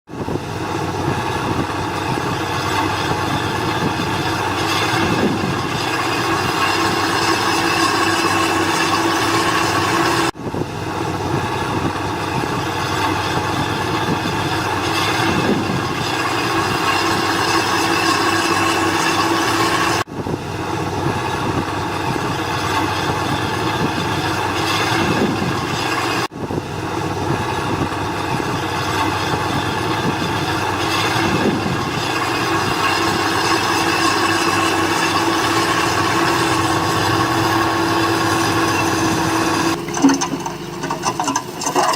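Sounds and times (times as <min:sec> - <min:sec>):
diesel machinery drone and whine: 0:00.1 - 0:41.9.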